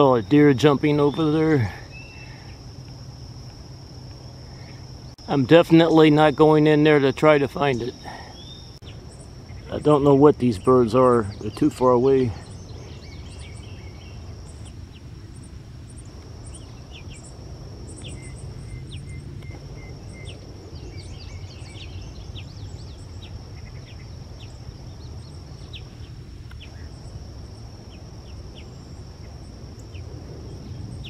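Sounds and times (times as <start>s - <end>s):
high insect trill: 0.0s - 31.0s
small birds chirping: 0.0s - 31.0s.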